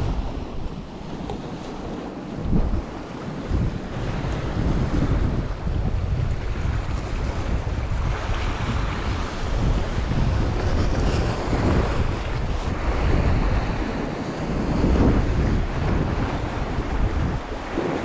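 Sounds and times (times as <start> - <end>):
sea waves on rocks: 0.0 - 18.0
wind buffeting microphone: 0.0 - 18.0.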